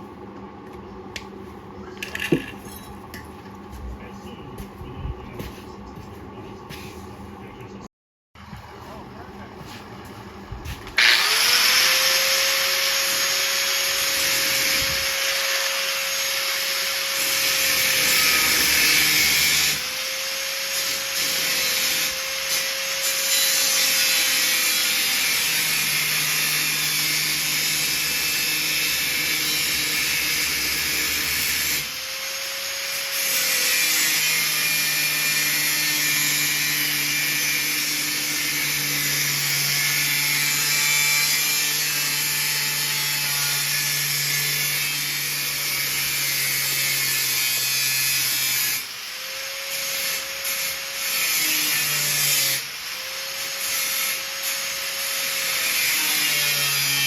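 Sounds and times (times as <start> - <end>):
electric grinder on steel: 11.0 - 57.0.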